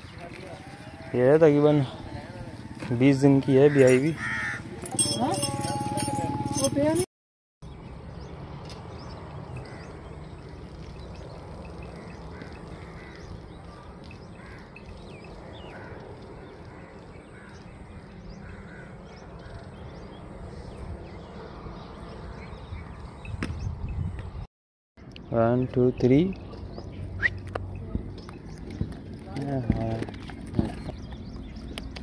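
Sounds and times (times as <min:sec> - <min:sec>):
birds calling: 0:00.0 - 0:07.0, 0:07.6 - 0:24.2, 0:25.0 - 0:32.0.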